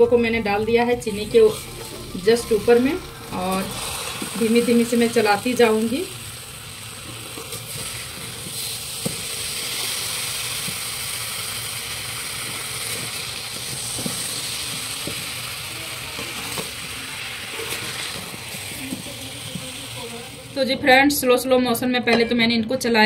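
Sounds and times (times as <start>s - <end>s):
syrup sizzling in a pan: 1.2s - 21.1s.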